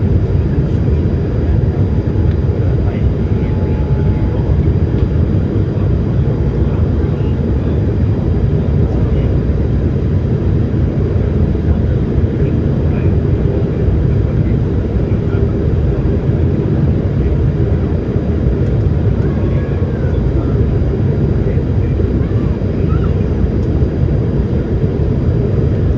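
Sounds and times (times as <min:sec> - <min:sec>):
jet engines and airflow in cabin: 0:00.0 - 0:25.9.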